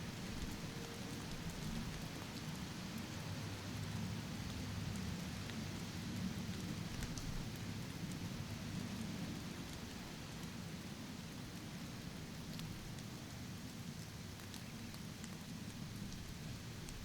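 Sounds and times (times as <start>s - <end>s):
raindrop ticks: 0.0s - 17.0s
steady rain hiss: 0.0s - 17.0s.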